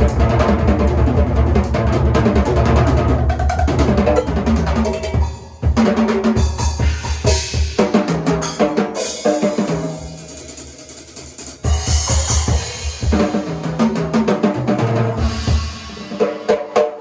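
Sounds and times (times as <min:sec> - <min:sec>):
drum kit playing: 0:00.0 - 0:17.0.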